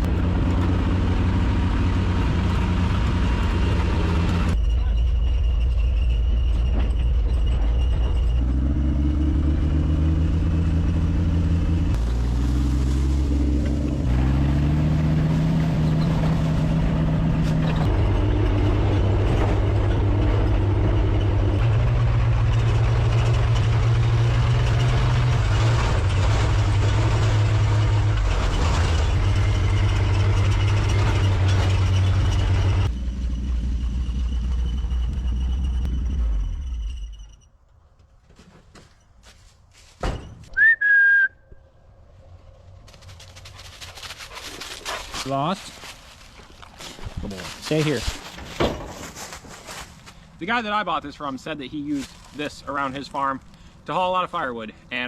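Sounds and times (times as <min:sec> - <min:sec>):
car engine droning: 0:00.0 - 0:39.0, 0:41.2 - 0:55.0.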